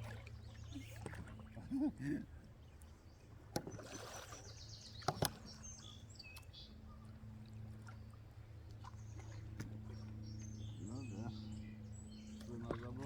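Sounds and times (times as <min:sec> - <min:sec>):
water splashing against a boat: 0:00.0 - 0:11.5, 0:12.3 - 0:13.0.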